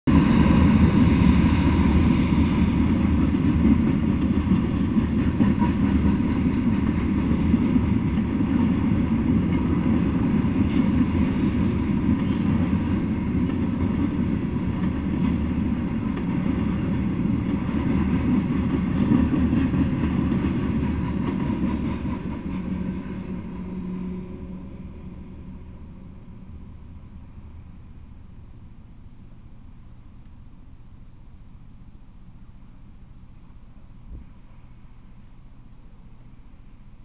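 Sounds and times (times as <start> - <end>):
freight train rolling past: 0.1 - 37.0.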